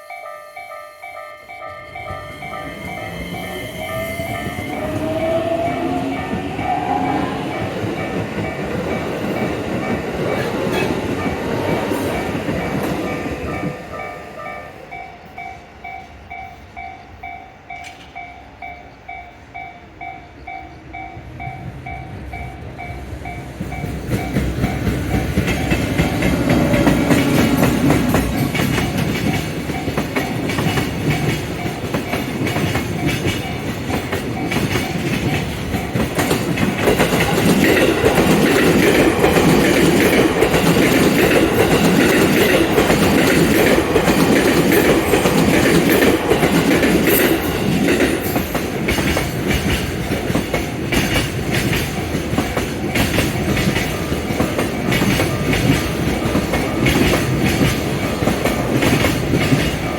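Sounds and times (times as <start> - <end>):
level-crossing bell dinging: 0.0 - 48.8
train rumble: 0.0 - 59.9
train wheels clattering over rails: 1.8 - 14.6, 22.2 - 59.9.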